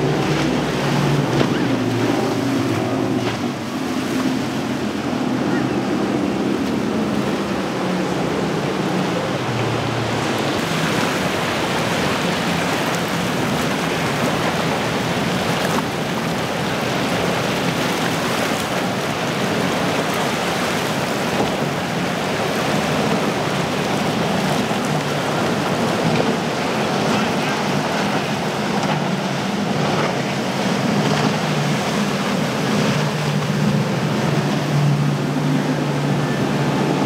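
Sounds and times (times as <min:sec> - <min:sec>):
outboard engine hum: 0:00.0 - 0:37.0
water rushing from boat hull: 0:00.0 - 0:37.0.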